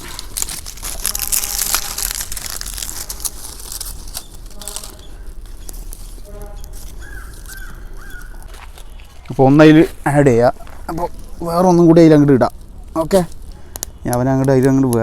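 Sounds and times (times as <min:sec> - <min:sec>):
palm fronds burning crackling: 0:00.0 - 0:15.0.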